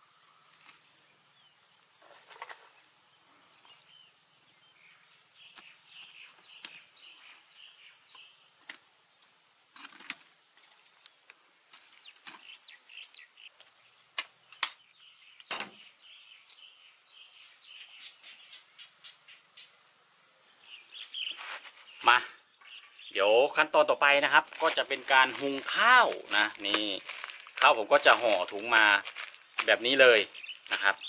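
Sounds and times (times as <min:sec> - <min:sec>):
birds chirping: 0:00.0 - 0:09.2, 0:10.8 - 0:31.0
insects trilling: 0:00.0 - 0:31.0.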